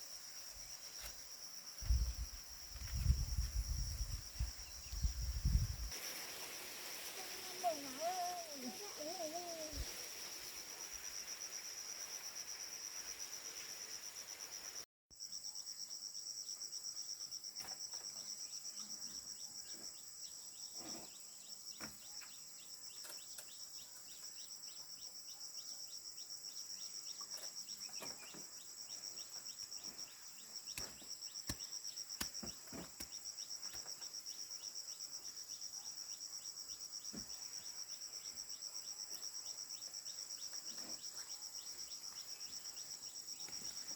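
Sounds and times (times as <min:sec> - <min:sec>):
insects chirping: 0:00.0 - 0:43.9.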